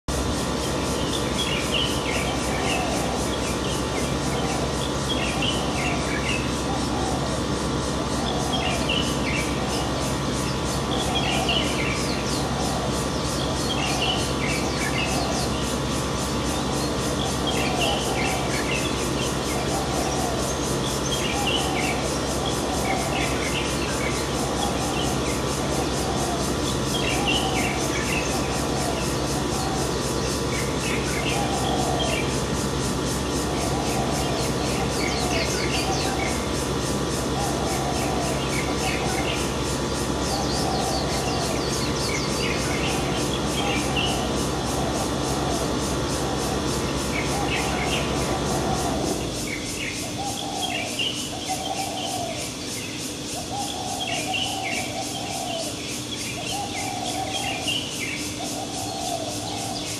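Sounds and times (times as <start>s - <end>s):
steady mechanical hum: 0.0s - 59.9s
lower bird call: 0.1s - 59.9s.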